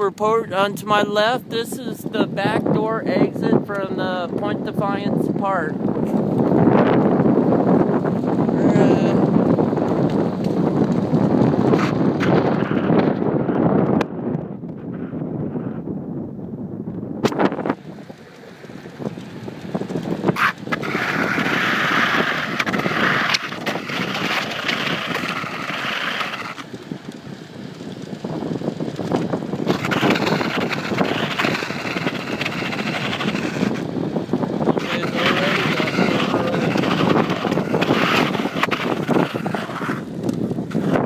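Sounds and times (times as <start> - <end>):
tyre and road noise: 0.0 - 41.0
wind rushing over microphone: 0.0 - 41.0.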